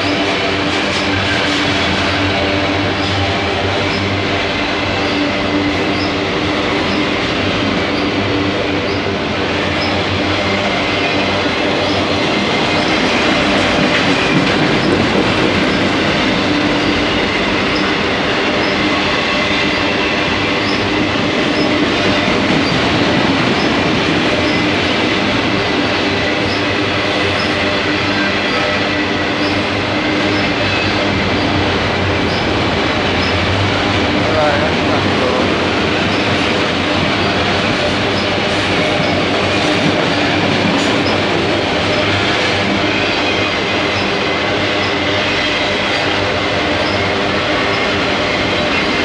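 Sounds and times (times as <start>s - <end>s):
freight train rolling past: 0.0s - 49.0s.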